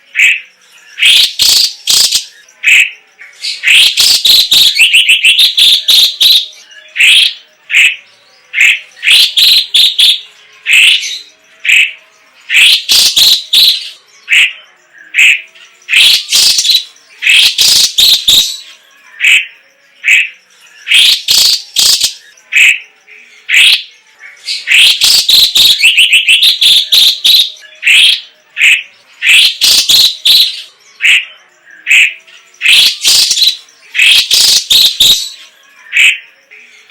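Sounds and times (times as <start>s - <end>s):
bird singing chattering phrases: 0.0s - 36.9s.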